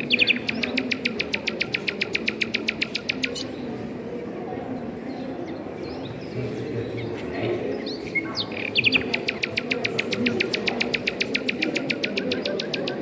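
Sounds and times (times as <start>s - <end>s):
low background noise: 0.0s - 13.0s
songbird chirping and trilling: 0.0s - 13.0s.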